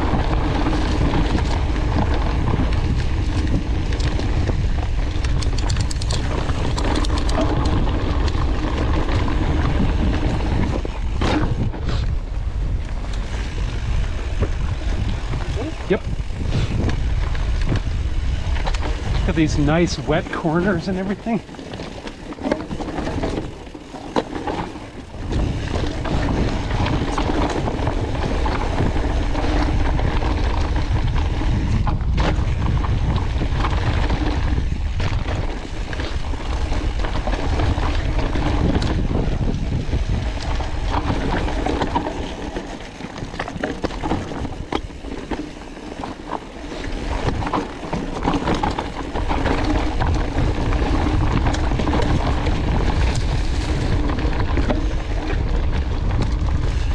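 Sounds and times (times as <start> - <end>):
bike rattling over bumps: 0.0 - 56.9
bike tyre noise: 0.0 - 56.9
wind buffeting microphone: 0.0 - 56.9.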